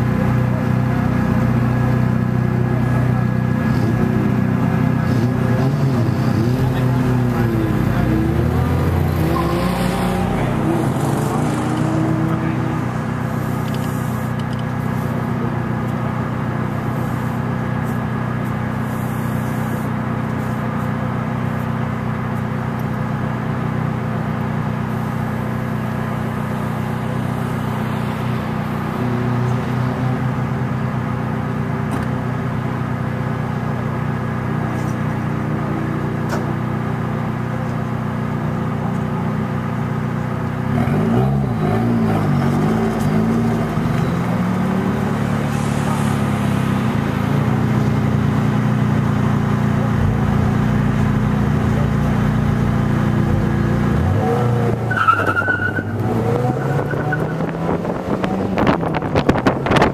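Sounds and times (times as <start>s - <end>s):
car engine idling: 0.0s - 40.7s, 41.4s - 59.9s.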